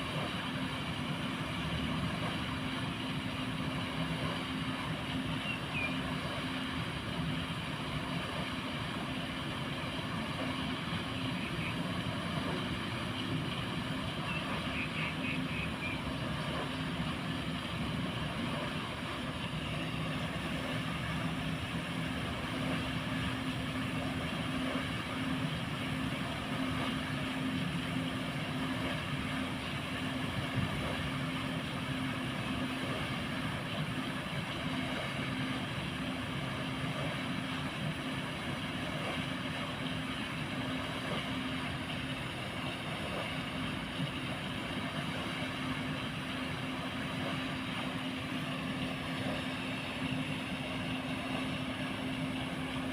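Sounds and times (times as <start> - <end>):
aerator motor hum: 0.0 - 52.9
churned water rushing: 0.0 - 52.9.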